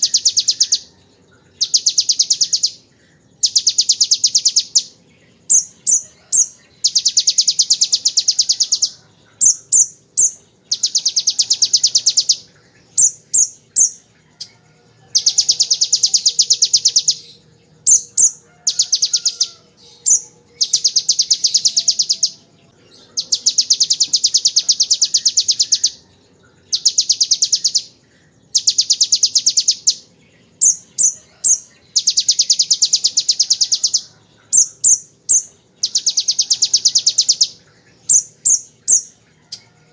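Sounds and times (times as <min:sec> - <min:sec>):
bird song with rapid high rattles: 0:00.0 - 0:39.9.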